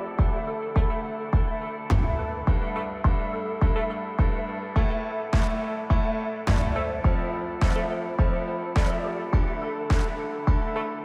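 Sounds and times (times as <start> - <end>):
synth chords: 0.0 - 11.0
electronic drum hits: 0.2 - 10.8.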